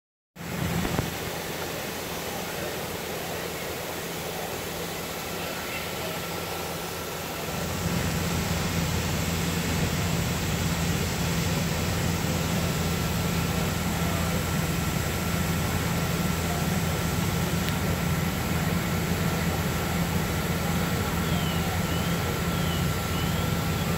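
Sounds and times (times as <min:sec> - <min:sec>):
faint steady whine: 0:00.4 - 0:23.9
fire engine running: 0:00.4 - 0:23.9
steady hiss: 0:00.4 - 0:23.9.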